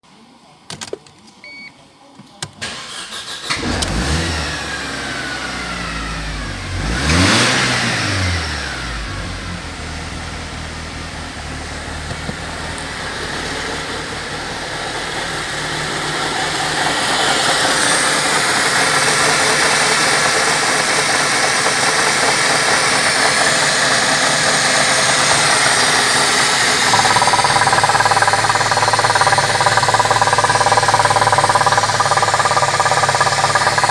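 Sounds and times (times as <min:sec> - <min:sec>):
car engine idling: 0:02.5 - 0:33.9
car engine starting and revving: 0:02.6 - 0:33.9.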